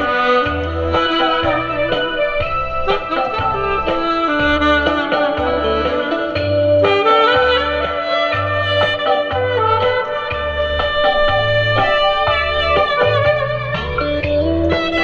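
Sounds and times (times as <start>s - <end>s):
backing track bass line: 0.0s - 15.0s
saxophone duet: 0.0s - 15.0s.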